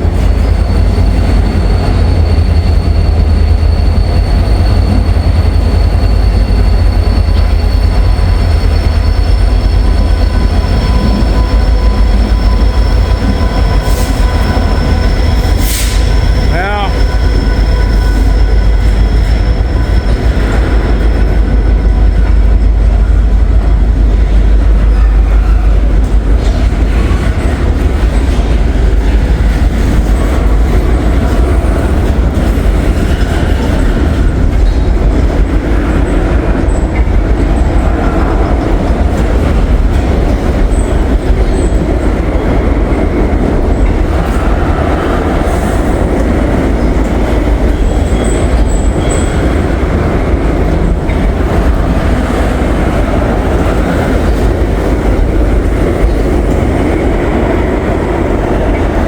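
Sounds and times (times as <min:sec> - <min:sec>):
freight train rumbling by: 0:00.0 - 0:59.0.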